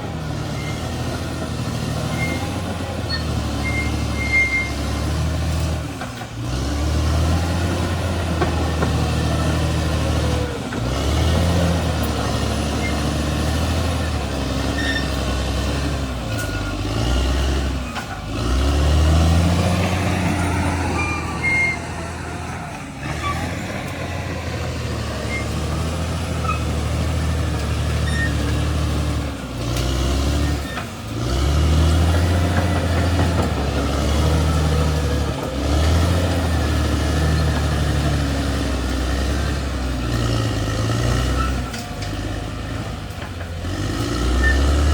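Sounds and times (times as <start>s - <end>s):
bulldozer diesel engine: 0.0s - 44.9s.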